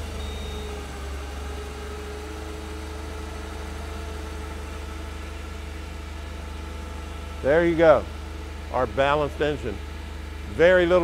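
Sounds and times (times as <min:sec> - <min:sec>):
forklift engine idling: 0:00.0 - 0:11.0.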